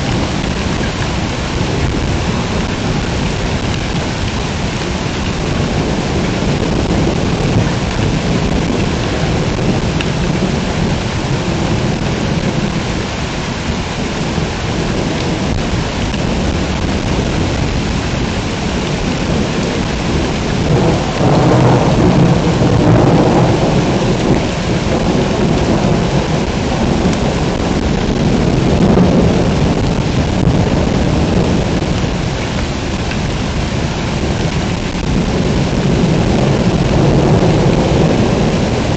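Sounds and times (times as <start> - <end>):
heavy rain pouring: 0.0 - 38.9
thunder rumbling: 0.0 - 38.9.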